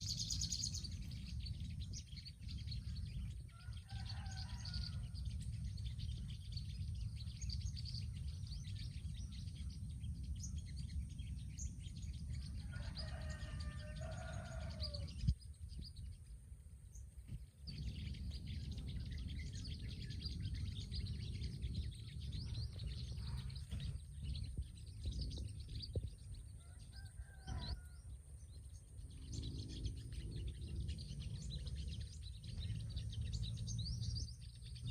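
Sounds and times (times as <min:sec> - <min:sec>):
lower bird calls: 0:00.0 - 0:34.9
sunbirds chirping: 0:00.0 - 0:34.9
low rumble: 0:04.6 - 0:13.0, 0:13.8 - 0:34.9.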